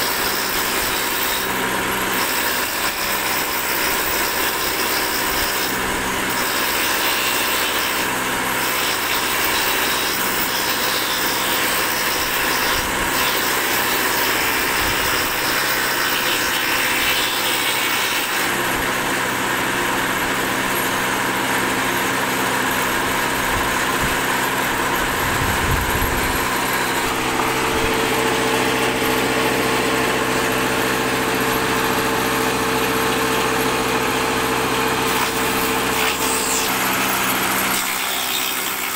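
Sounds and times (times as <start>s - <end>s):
woodworking machine cutting wood: 0.0s - 38.9s.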